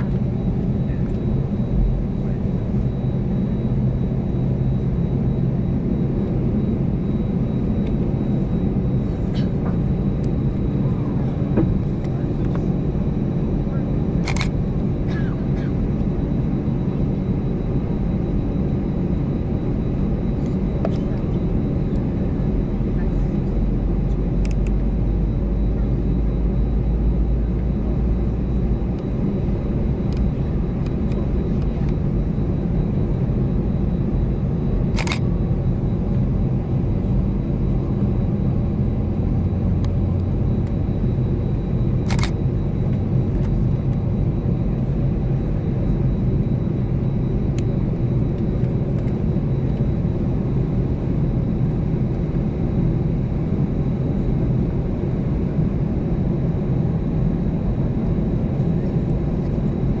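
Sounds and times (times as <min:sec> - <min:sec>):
low aircraft cabin hum: 0:00.0 - 1:00.0.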